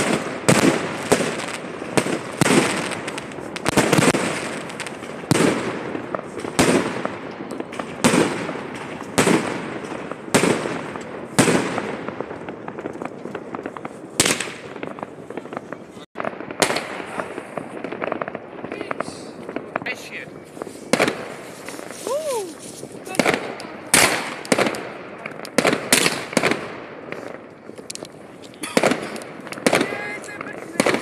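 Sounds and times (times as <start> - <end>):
fireworks bangs: 0.0 - 31.0
fireworks crackle: 0.0 - 31.0.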